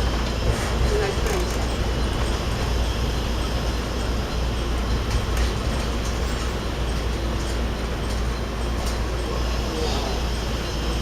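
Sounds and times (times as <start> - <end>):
diesel engine rumble: 0.0 - 11.0
train wheels on rails: 0.0 - 11.0.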